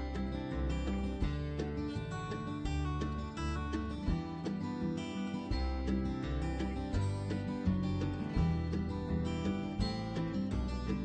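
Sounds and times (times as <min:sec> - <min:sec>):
acoustic guitar music: 0:00.0 - 0:11.0
low bass notes: 0:00.0 - 0:11.0.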